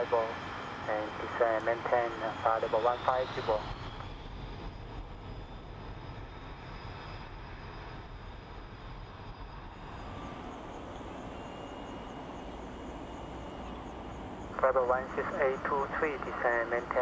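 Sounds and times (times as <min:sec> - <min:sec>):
distant jet engines rumbling: 0:00.0 - 0:17.0
faint high jet whine: 0:00.0 - 0:17.0.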